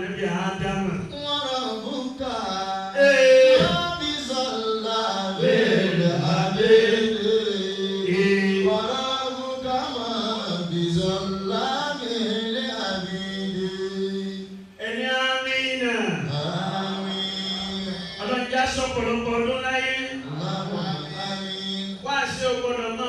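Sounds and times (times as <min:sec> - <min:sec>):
man chanting: 0:00.0 - 0:23.0.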